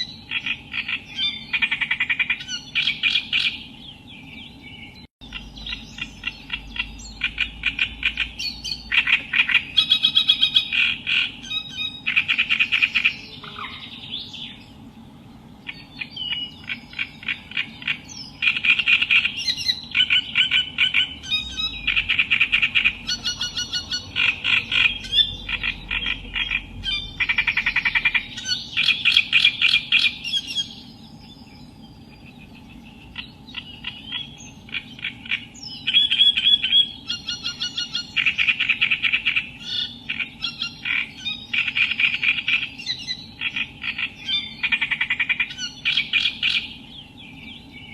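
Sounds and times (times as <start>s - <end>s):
faint steady hum: 0.0s - 47.9s
warbler singing: 0.0s - 47.9s.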